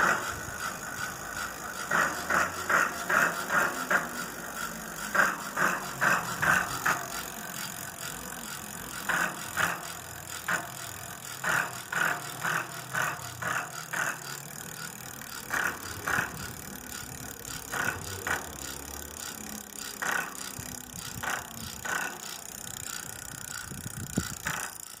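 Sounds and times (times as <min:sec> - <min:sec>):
bicycle freewheel ratchet clicking: 0:00.0 - 0:25.0.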